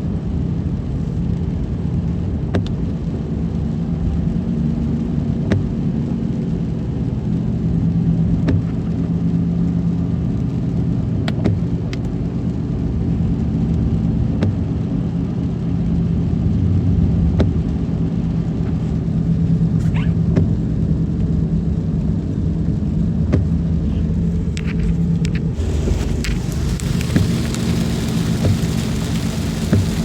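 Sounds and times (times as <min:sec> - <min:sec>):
engine and road hum: 0:00.0 - 0:30.0.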